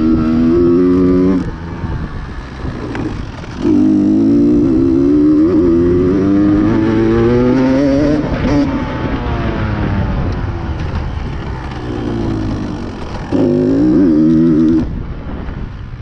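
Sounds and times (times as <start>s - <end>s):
dirt bike engine revving: 0.0s - 9.6s, 10.7s - 15.1s.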